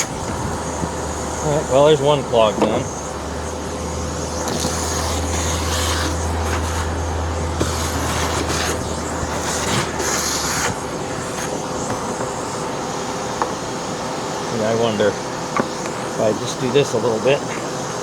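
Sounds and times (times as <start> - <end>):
vacuum cleaner motor hum: 0.0 - 18.0
air rushing through hose: 2.9 - 18.0.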